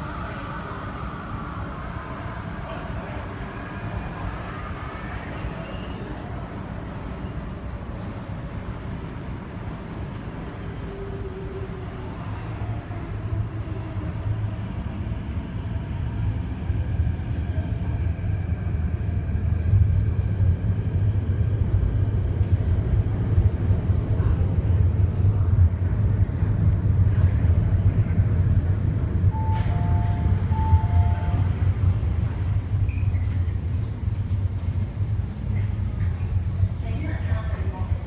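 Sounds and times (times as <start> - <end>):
train rumbling in tunnel: 0.0 - 38.0.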